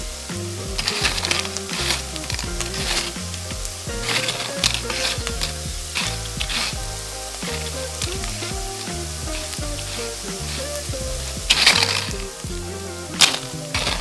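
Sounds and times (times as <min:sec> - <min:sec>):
background music with beat: 0:00.0 - 0:14.0
food sizzling in hot oil: 0:00.0 - 0:14.0.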